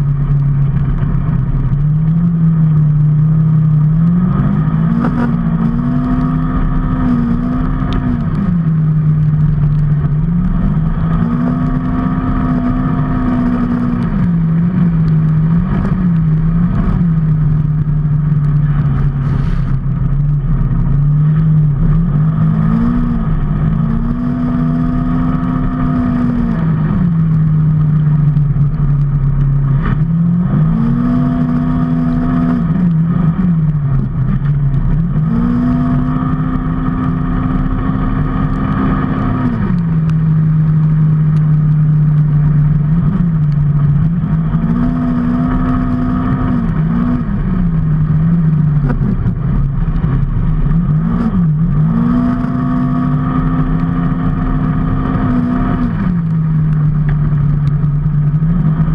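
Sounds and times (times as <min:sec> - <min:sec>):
vehicle engine running: 0:00.0 - 0:58.9
wind and road noise: 0:00.0 - 0:58.9.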